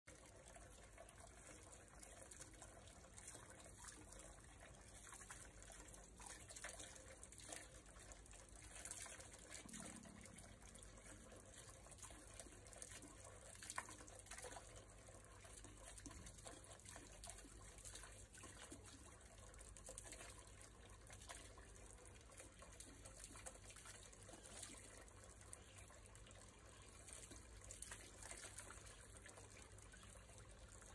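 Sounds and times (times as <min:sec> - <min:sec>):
light water splashing: 0:00.1 - 0:30.9
water trickling into metal pot: 0:00.1 - 0:30.9.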